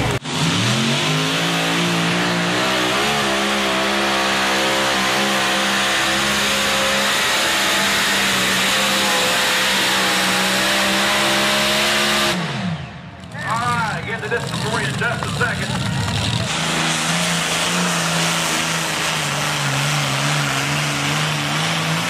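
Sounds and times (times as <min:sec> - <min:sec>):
tractor engine at full power: 0:00.0 - 0:22.0.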